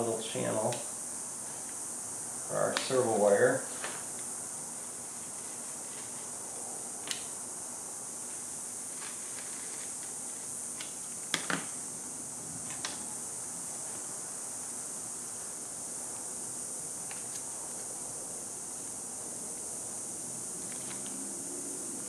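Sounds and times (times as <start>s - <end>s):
steady high-pitched hiss: 0.0s - 22.0s.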